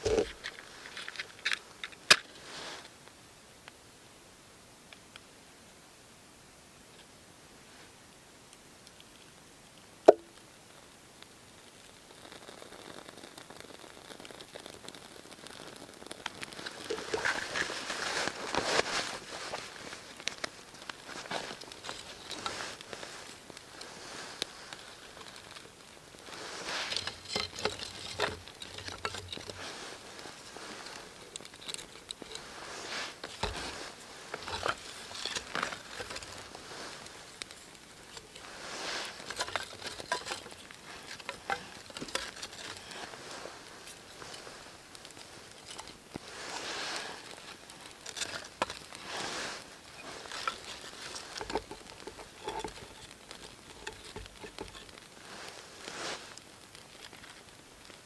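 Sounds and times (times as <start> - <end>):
rustling: 0.0 - 3.2, 11.6 - 58.0
kindling fire crackling: 0.0 - 6.0, 6.8 - 58.0.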